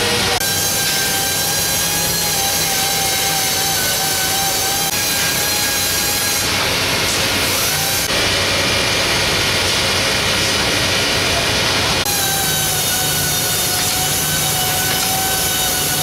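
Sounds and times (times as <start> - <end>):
woodshop machinery whining: 0.0 - 16.0.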